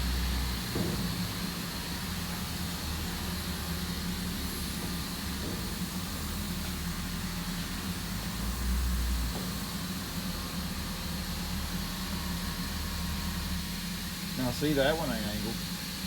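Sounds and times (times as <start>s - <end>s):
sawmill machinery drone: 0.0s - 16.0s.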